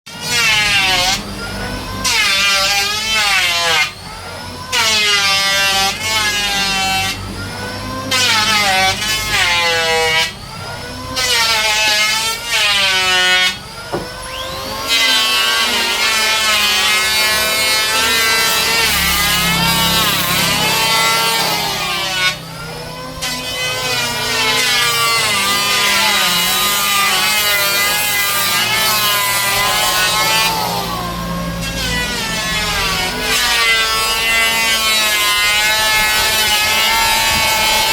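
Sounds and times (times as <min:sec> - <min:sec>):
power tool cutting wood: 0:00.1 - 0:37.9.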